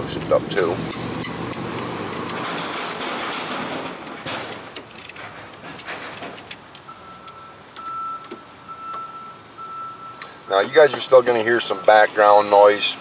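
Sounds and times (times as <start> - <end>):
background construction noise: 0.0 - 13.0.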